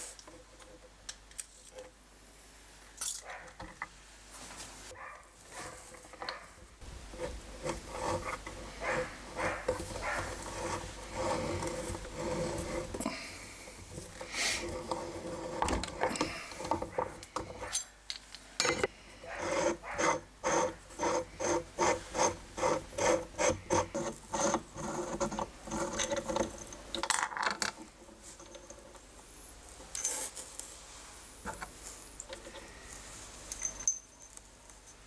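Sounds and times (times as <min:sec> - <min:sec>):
rusted threads scraping: 0:05.4 - 0:34.0.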